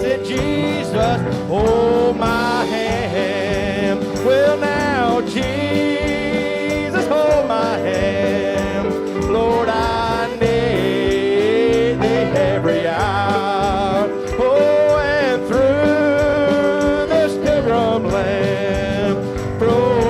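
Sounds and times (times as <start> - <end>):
country gospel band playing: 0.0 - 20.0.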